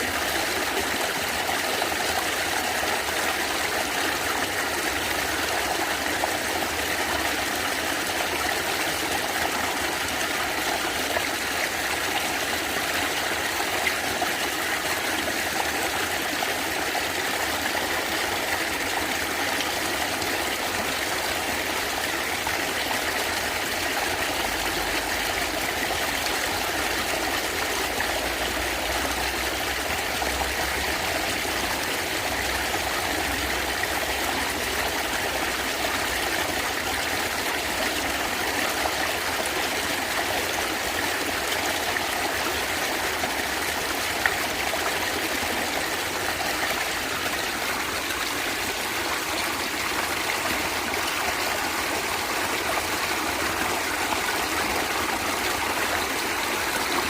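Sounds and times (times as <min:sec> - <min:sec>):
stream gurgling: 0:00.0 - 0:57.0.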